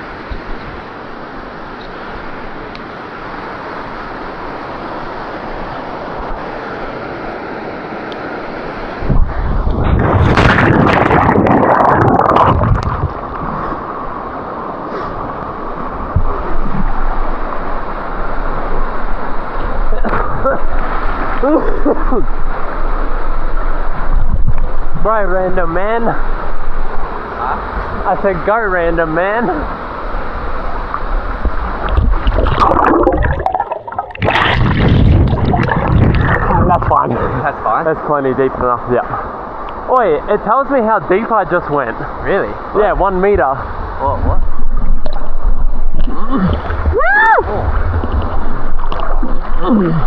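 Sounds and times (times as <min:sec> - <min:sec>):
steady rushing water: 0:00.0 - 0:50.0
water splashing and churning: 0:00.0 - 0:50.0.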